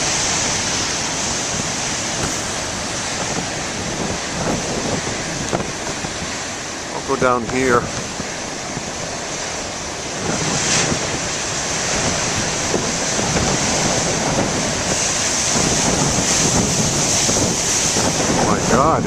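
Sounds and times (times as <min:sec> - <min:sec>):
storm waves crashing on rocks: 0:00.0 - 0:19.0
wind buffeting microphone: 0:00.0 - 0:19.0.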